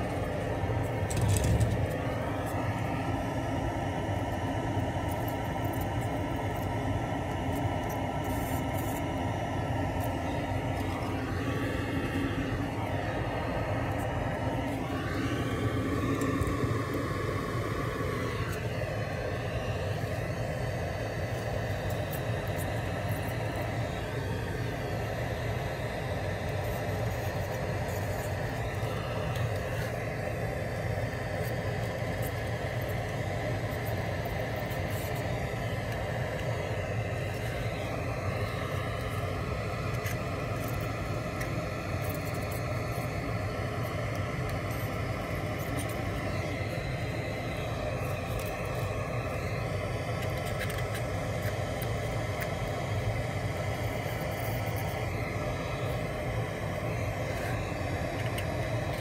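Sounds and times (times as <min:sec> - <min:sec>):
machinery rumble and hum: 0:00.0 - 0:59.0.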